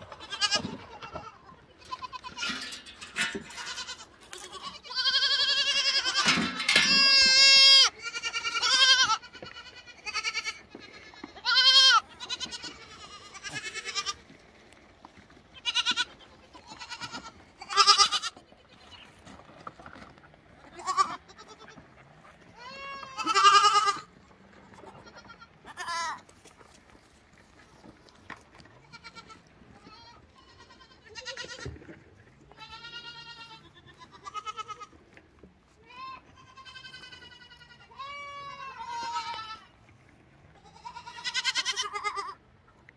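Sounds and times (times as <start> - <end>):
goat kids bleating: 0.0 - 14.4, 15.3 - 19.2, 20.6 - 26.7, 28.8 - 35.0, 35.7 - 39.8, 40.5 - 42.8.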